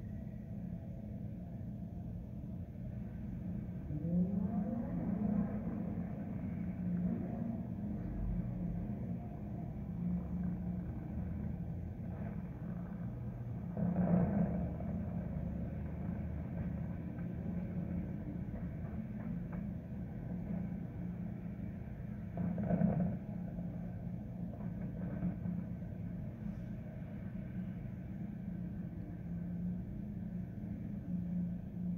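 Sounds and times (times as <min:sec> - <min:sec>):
low city rumble: 0:00.0 - 0:31.9.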